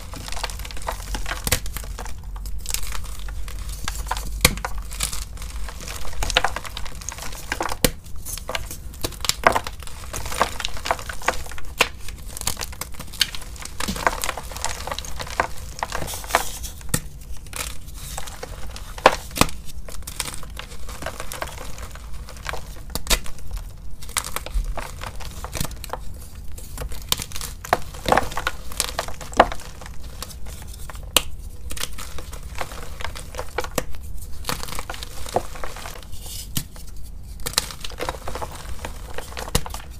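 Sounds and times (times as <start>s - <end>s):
chalk crunching and cracking: 0.0s - 39.9s.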